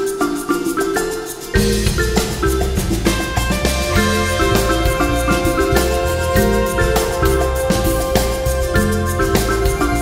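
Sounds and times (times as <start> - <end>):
melody of struck notes: 0.0 - 10.0
bass and drums: 1.0 - 10.0.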